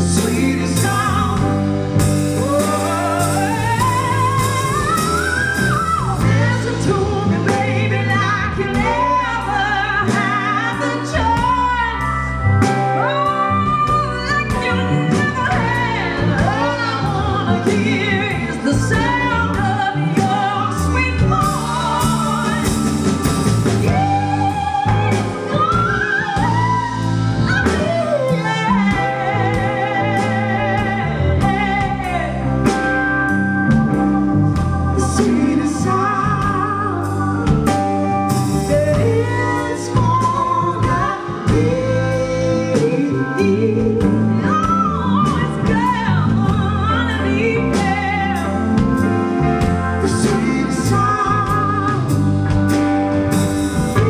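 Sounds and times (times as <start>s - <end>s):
bass guitar: 0.0s - 54.0s
drum kit beat: 0.0s - 54.0s
electric guitar: 0.0s - 54.0s
keyboard: 0.0s - 54.0s
woman singing: 0.0s - 54.0s.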